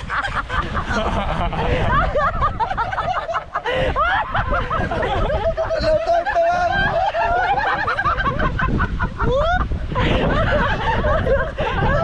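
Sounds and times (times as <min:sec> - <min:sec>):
group of people laughing: 0:00.0 - 0:12.0.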